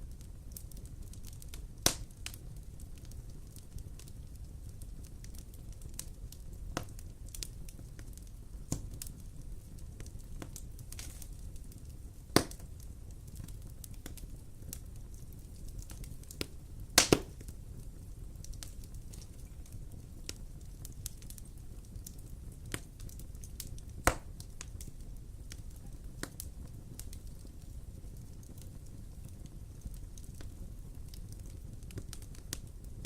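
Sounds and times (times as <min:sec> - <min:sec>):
fire popping: 0:00.0 - 0:33.0
wood fire crackling: 0:00.0 - 0:33.0.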